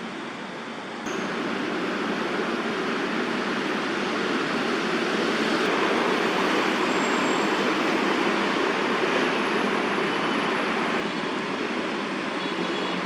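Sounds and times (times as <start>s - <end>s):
city road traffic rumble: 0.0s - 13.0s.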